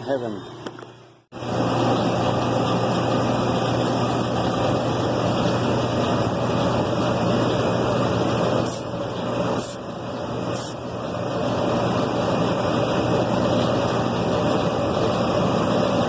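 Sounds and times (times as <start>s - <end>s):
hvac equipment humming: 0.0s - 16.0s.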